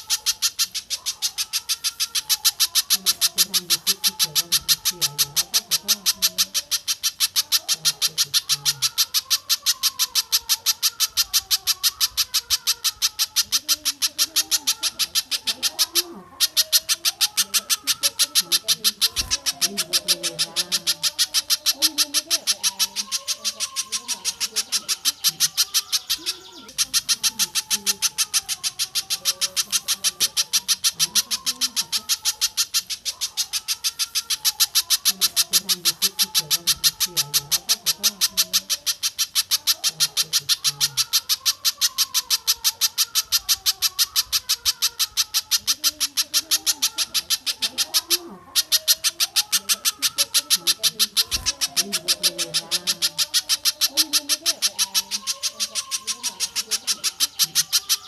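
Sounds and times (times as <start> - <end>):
sharp high bird calls: 0.0 - 58.0.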